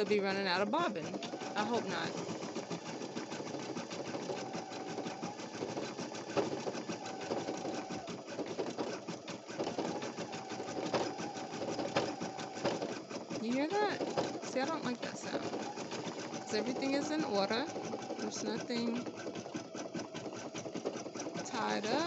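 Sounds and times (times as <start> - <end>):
embroidery machine needle clatter: 0.0 - 22.0.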